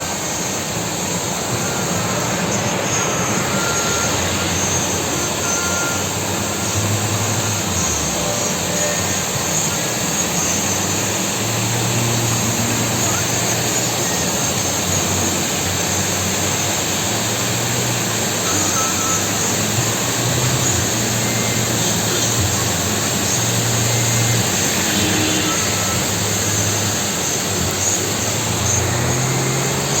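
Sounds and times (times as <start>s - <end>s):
heavy rain rushing: 0.0s - 30.0s
vehicle engines humming: 0.0s - 30.0s.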